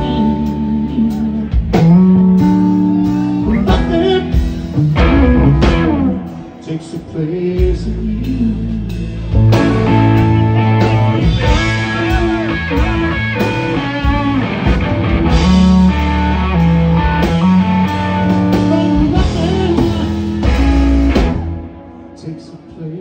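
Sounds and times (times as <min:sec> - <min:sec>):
bass and drums: 0:00.0 - 0:22.0
electric guitar lead lines: 0:00.0 - 0:23.0.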